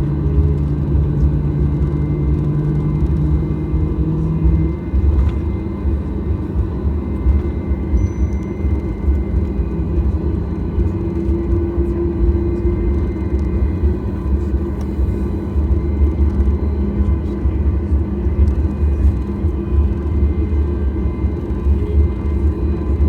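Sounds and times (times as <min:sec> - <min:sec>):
airplane cabin engine rumble: 0:00.0 - 0:23.0
faint engine whine: 0:00.0 - 0:23.0.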